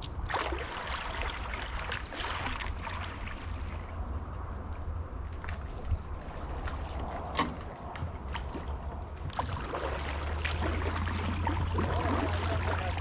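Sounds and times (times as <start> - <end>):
paddle blades splashing: 0.0 - 13.0
steady low rumble: 0.0 - 13.0.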